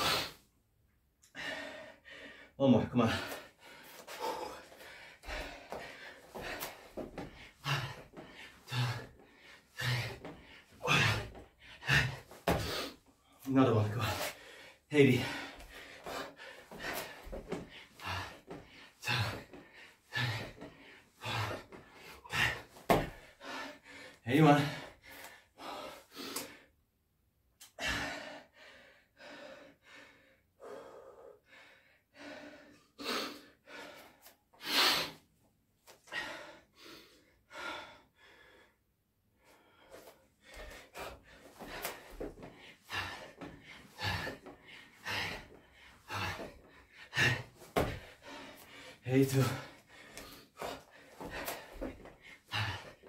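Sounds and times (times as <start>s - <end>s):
man gasping breaths: 0.0s - 0.5s, 1.2s - 26.8s, 27.6s - 35.3s, 35.9s - 53.0s.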